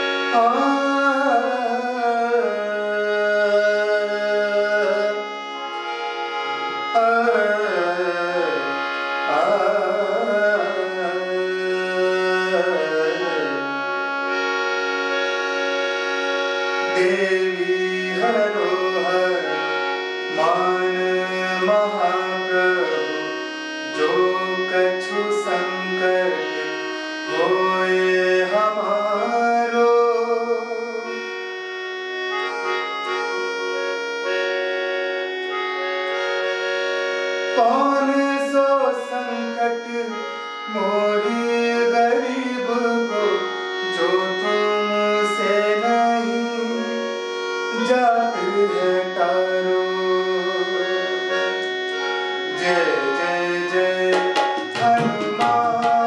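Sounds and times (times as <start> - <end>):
man singing classical melody: 0.0 - 31.6, 32.2 - 56.0
harmonium held notes: 0.0 - 56.0.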